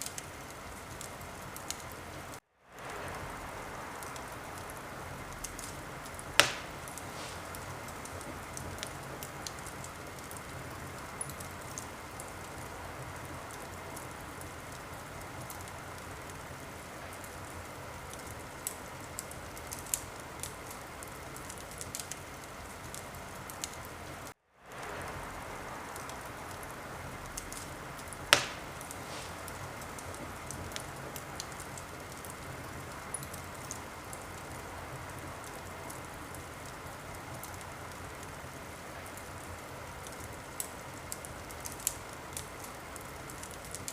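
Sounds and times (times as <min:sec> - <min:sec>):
loud fire pops: 0:00.0 - 0:23.8, 0:24.6 - 0:43.9
wood fire crackling: 0:00.0 - 0:43.9.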